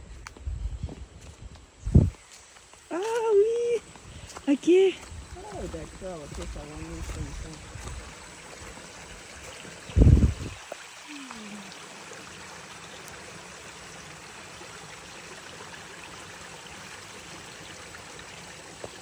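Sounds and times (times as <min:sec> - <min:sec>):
creek water trickling: 0:01.2 - 0:19.0.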